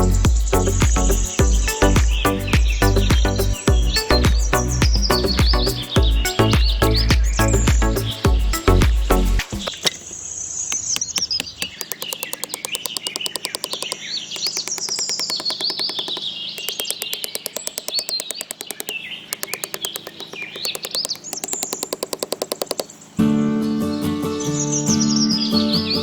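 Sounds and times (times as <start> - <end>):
fast even ticking: 0.0 - 10.0, 10.8 - 23.0
songbirds chirping: 0.0 - 23.2, 23.8 - 26.0.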